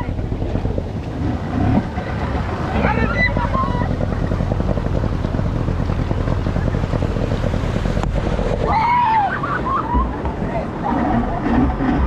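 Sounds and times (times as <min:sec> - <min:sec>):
boat engine running: 0:00.0 - 0:12.0
surf: 0:00.0 - 0:12.0
wind buffeting microphone: 0:00.0 - 0:12.0.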